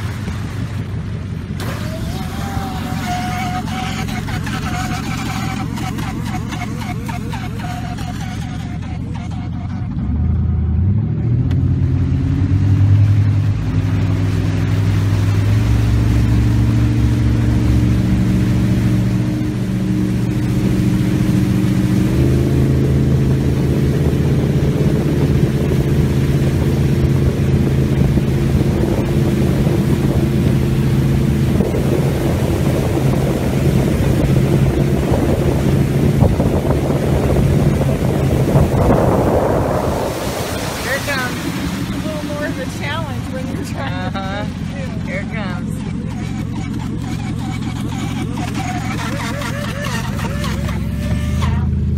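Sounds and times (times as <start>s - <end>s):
boat engine running: 0.0s - 51.9s
rush of wind and water: 0.0s - 51.9s.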